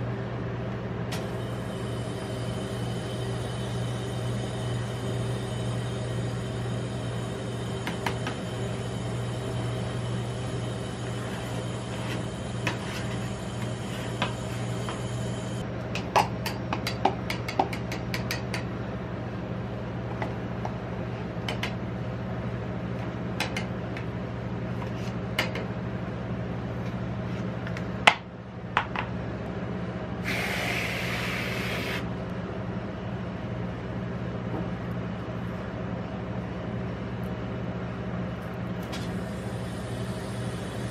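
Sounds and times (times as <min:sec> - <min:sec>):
cold plate machine humming: 0:00.0 - 0:24.7, 0:28.8 - 0:40.9.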